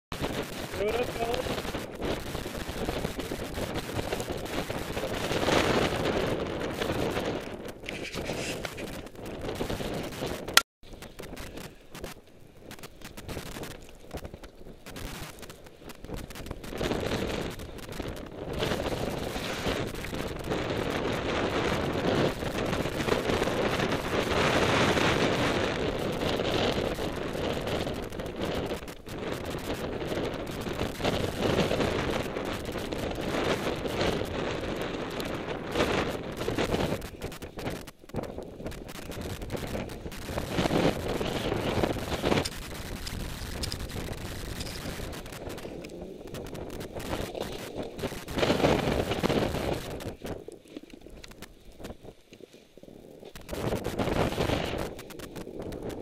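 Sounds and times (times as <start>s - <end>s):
wind buffeting microphone: 0.1s - 56.0s
snowboard scraping over snow: 0.2s - 56.0s.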